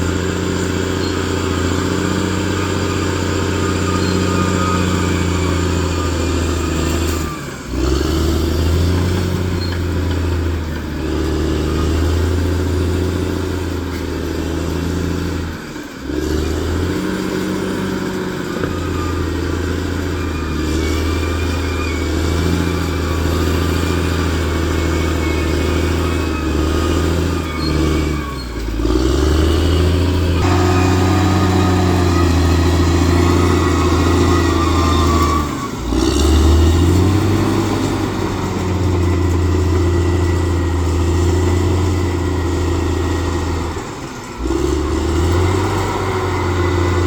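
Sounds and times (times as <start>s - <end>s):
bulldozer diesel engine running: 0.0s - 47.0s.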